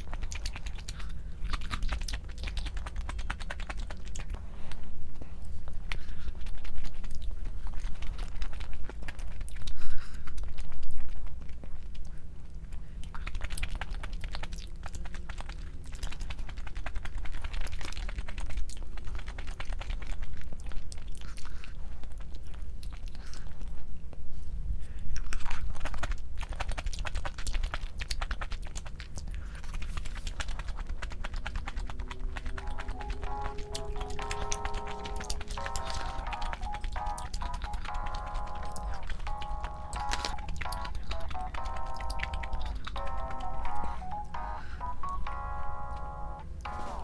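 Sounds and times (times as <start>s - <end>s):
wet mouth noises: 0.0s - 45.5s
chewing and biting food: 0.0s - 47.0s.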